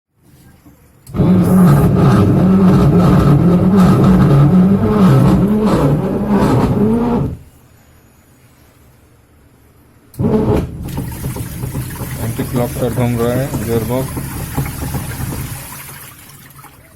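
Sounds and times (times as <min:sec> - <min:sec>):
washing machine wavering hum: 0:00.2 - 0:16.9.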